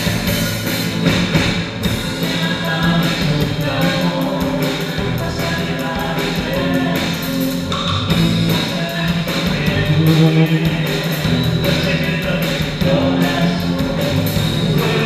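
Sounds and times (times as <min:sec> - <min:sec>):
drum kit beat: 0:00.0 - 0:15.0
electric guitars: 0:00.0 - 0:15.0
voices singing: 0:02.0 - 0:15.0.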